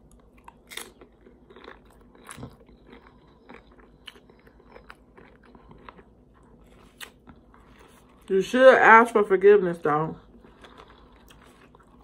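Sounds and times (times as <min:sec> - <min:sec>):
person chewing crunchy chips: 0:00.0 - 0:08.3, 0:10.1 - 0:12.0.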